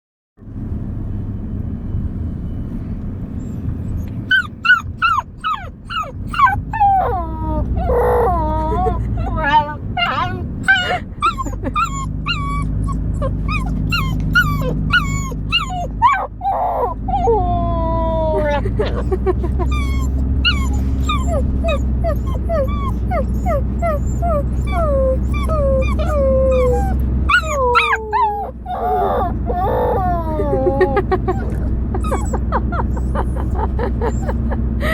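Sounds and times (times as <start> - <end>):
dog yipping and howling: 3.9 - 34.5.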